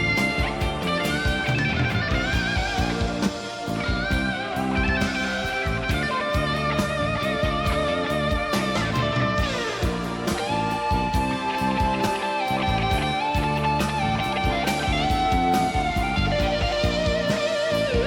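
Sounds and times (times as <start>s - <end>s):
blues-rock band playing: 0.0s - 18.0s.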